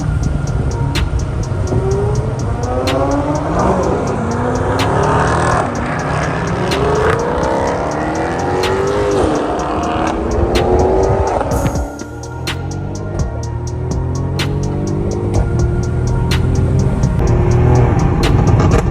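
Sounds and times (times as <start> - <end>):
car engine accelerating hard: 0.0 - 18.9.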